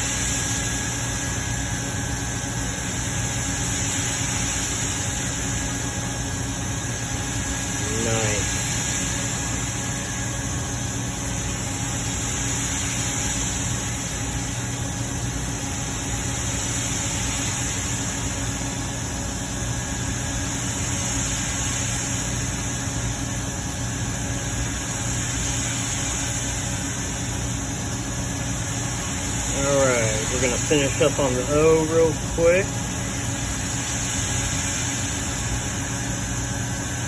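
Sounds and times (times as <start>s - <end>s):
background hum and hiss: 0.0s - 37.0s.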